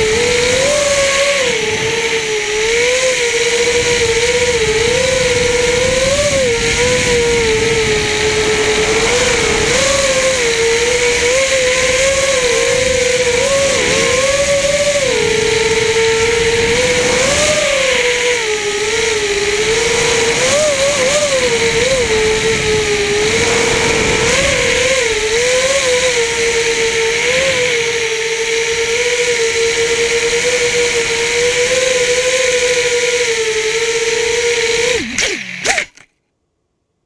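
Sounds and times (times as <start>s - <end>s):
drone motors whining: 0.0s - 36.1s.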